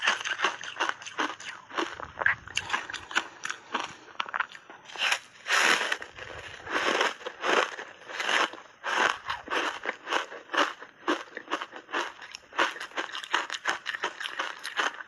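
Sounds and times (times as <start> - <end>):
crisp crunching bites: 0.0 - 15.0.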